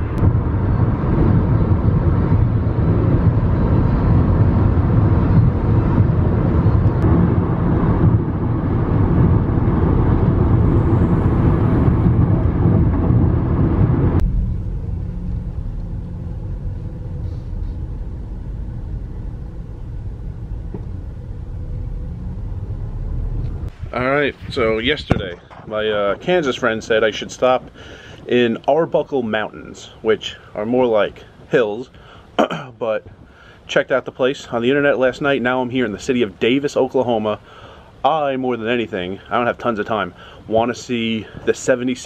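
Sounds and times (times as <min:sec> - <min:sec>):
low rumble of car driving slowly: 0:00.0 - 0:42.0
road and wind noise inside car: 0:00.0 - 0:42.0.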